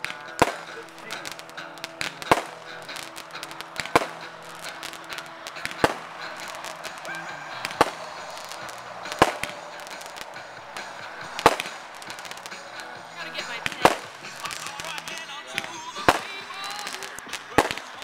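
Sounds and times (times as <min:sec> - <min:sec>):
firework pops and crackle: 0:00.0 - 0:18.0
fireworks bursting with loud bangs: 0:00.0 - 0:18.0.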